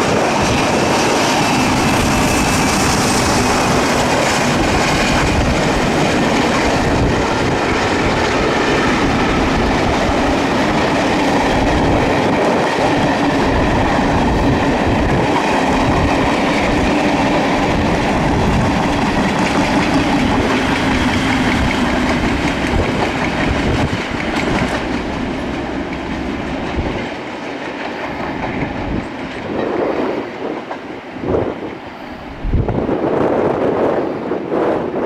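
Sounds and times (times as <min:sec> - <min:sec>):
train wheels clattering over rail joints: 0:00.0 - 0:31.6.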